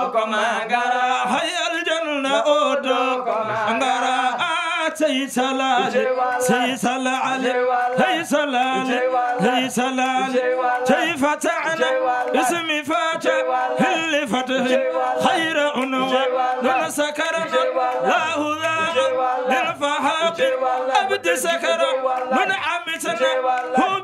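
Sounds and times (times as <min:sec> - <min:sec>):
man chanting into a microphone: 0:00.0 - 0:24.0.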